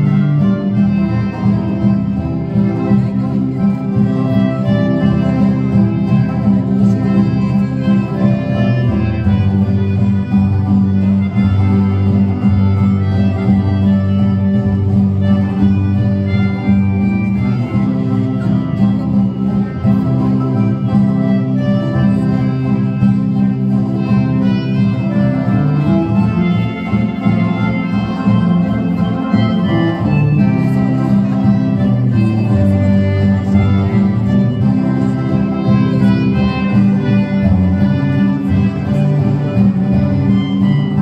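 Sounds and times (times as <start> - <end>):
folk band playing instrumental: 0.0 - 41.0.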